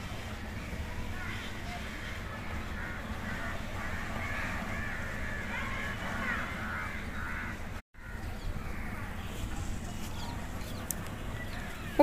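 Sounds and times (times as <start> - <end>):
low background noise: 0.0 - 12.0
birds calling: 0.6 - 12.0.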